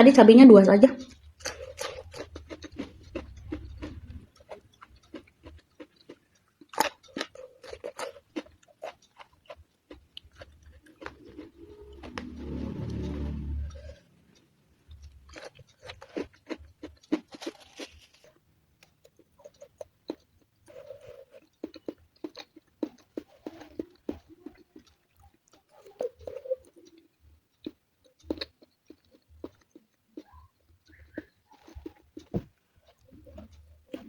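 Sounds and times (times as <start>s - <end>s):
person chewing crunchy food: 1.0s - 34.0s.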